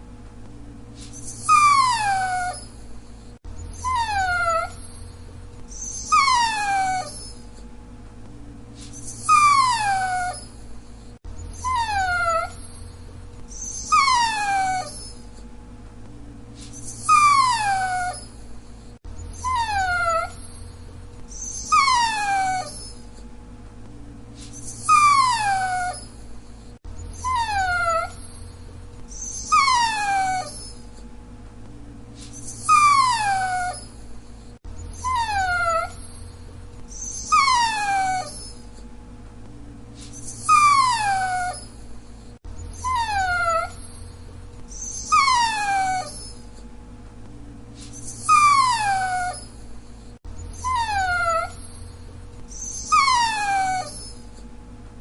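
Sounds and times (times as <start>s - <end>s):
dog whining: 1.0s - 7.7s, 8.8s - 15.5s, 16.6s - 23.3s, 24.4s - 31.1s, 32.2s - 38.9s, 40.0s - 46.7s, 47.8s - 54.5s.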